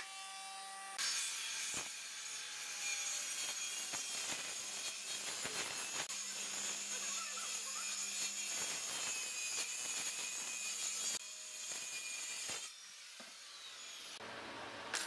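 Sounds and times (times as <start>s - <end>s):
circular saw cutting wood: 0.0s - 14.2s.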